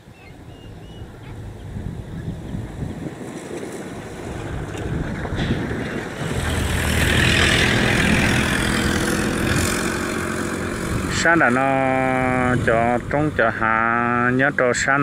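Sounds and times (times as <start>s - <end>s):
low steady engine hum: 0.0s - 15.0s
wind rumbling on microphone: 0.0s - 15.0s.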